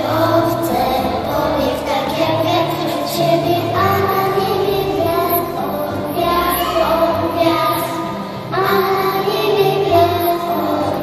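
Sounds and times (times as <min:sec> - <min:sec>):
children singing a carol: 0:00.0 - 0:11.0.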